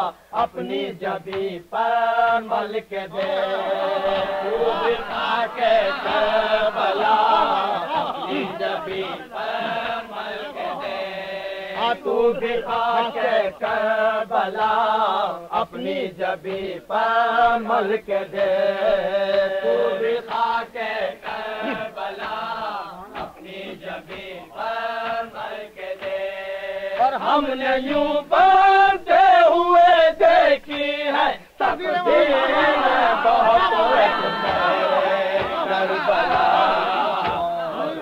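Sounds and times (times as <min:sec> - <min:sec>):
men chanting in chorus: 0:00.0 - 0:38.0.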